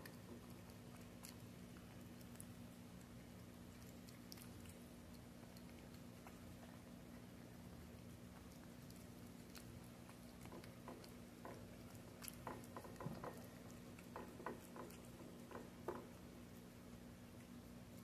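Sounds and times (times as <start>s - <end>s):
cat chewing and licking wet food: 0.0s - 18.0s.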